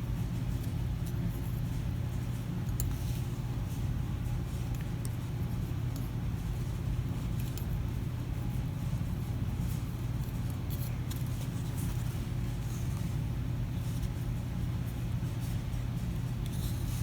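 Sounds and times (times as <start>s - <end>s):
soldering gun electrical hum: 0.0s - 17.0s.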